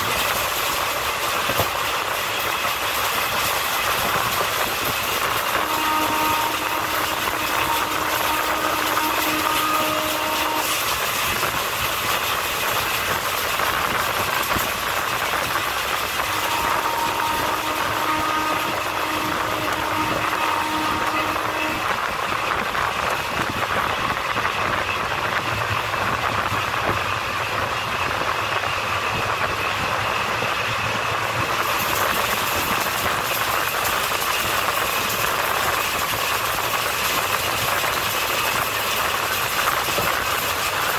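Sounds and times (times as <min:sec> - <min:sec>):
train wheels rushing on rails: 0:00.0 - 0:40.9.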